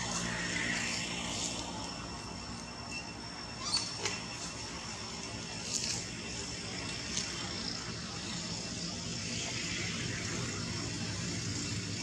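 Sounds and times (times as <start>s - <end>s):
distant engine hum: 0.0s - 12.0s
outdoor background noise: 0.0s - 12.0s.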